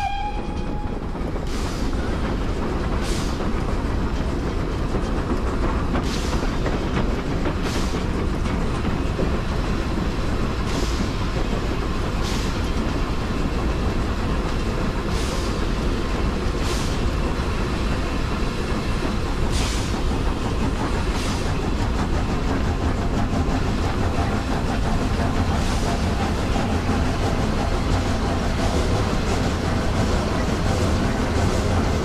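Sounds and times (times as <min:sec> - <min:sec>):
train wheels rumbling: 0:00.0 - 0:32.0
steam hisses: 0:01.0 - 0:04.9, 0:05.6 - 0:32.0.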